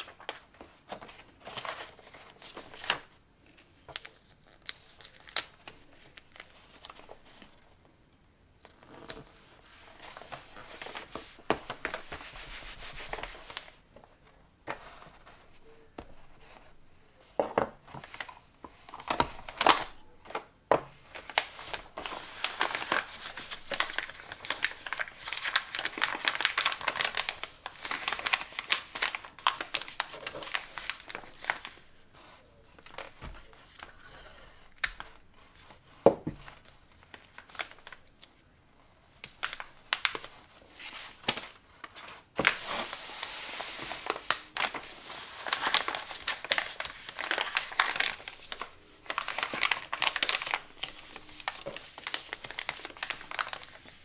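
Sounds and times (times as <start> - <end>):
paper crinkling and rustling: 0.0 - 7.7, 8.6 - 16.8, 17.5 - 38.4, 39.1 - 54.0.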